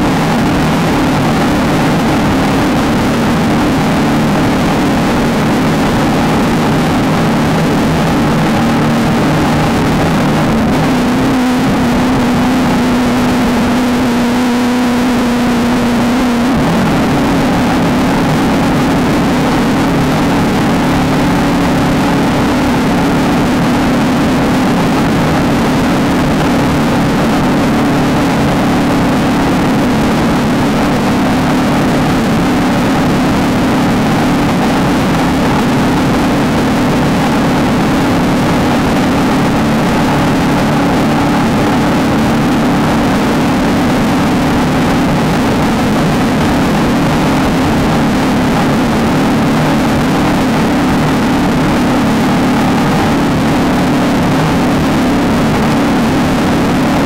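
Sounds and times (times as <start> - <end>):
race vehicle engine running hard: 0.0 - 57.0.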